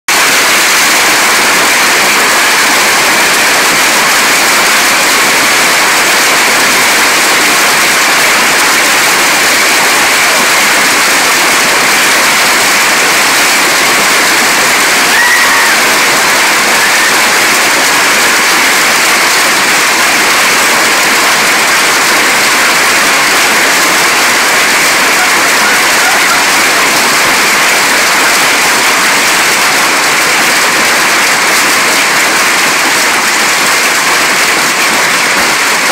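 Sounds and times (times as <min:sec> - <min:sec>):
hailstones pelting on roof and lawn: 0:00.1 - 0:35.9.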